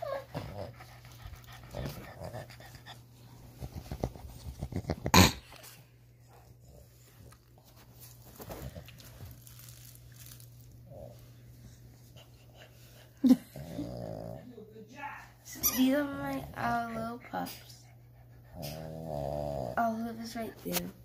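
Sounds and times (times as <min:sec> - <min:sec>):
puppies making play noises: 0:00.0 - 0:13.9, 0:15.4 - 0:19.2.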